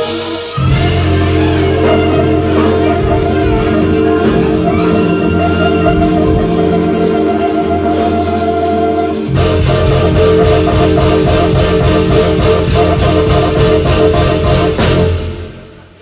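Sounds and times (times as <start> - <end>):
bass line: 0.0 - 16.0
keyboard chords: 0.0 - 16.0.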